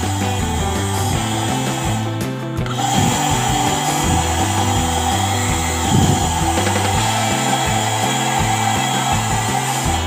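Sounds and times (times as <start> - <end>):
background music with bass line: 0.0 - 10.0
blower motor whirring: 0.0 - 10.0.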